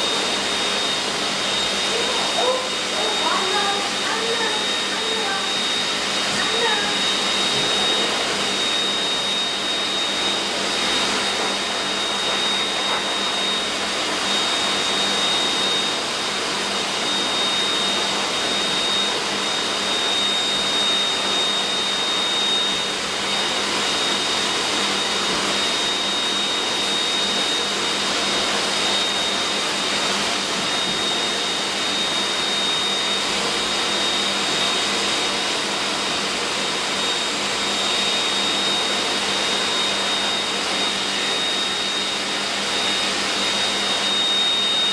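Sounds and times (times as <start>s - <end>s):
dryer air rushing: 0.0s - 44.9s.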